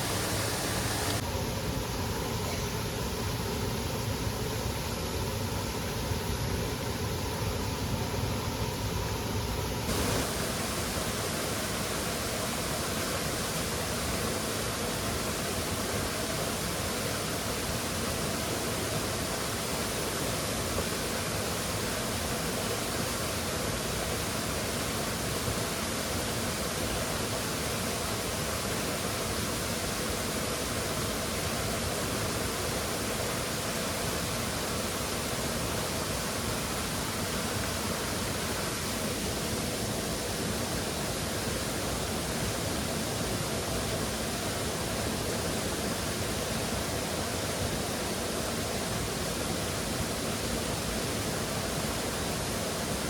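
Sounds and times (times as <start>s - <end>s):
waterfall rushing: 0.0s - 1.3s, 9.9s - 53.0s.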